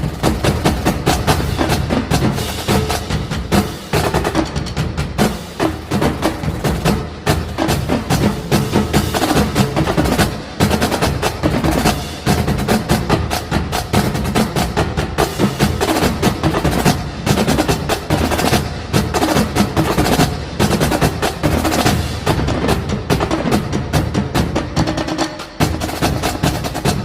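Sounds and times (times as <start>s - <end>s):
rapid percussion strikes: 0.0s - 27.0s.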